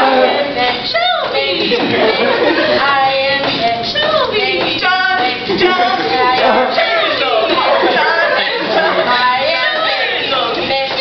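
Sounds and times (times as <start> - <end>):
young voices singing a cappella: 0.0 - 11.0.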